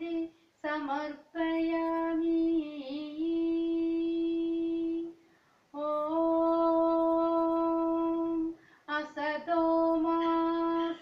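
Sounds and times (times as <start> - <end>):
woman chanting: 0.0 - 5.2, 5.8 - 11.0.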